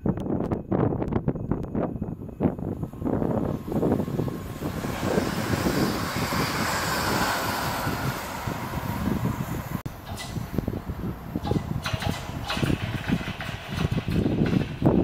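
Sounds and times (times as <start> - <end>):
train rushing past: 2.2 - 15.0.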